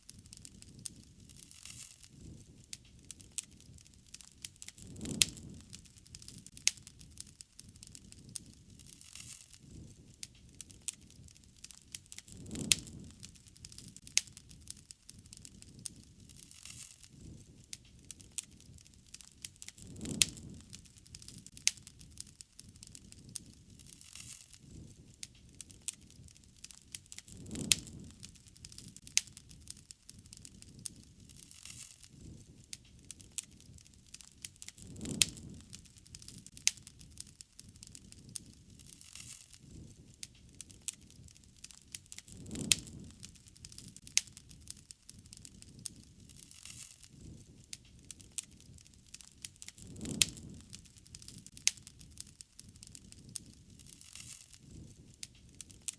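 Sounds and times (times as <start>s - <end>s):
low rumble of burning: 0.0s - 55.9s
sharp pops of burning wood: 0.0s - 55.9s
wood fire crackling: 0.0s - 55.9s.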